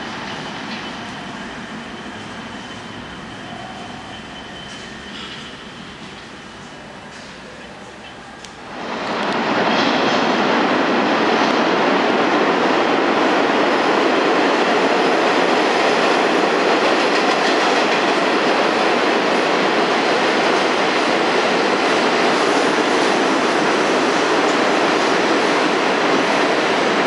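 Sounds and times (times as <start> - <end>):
subway train passing: 0.0 - 27.0.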